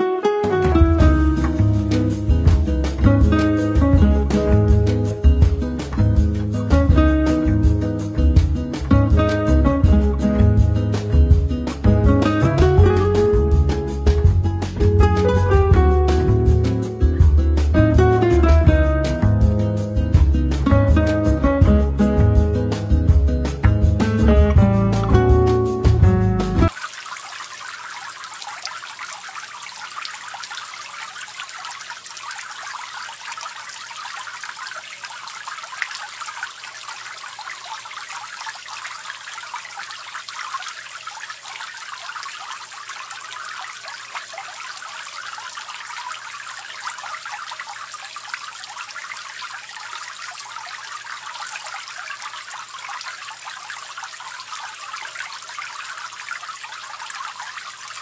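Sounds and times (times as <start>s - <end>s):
fountain water trickling and splashing: 0.0s - 58.0s.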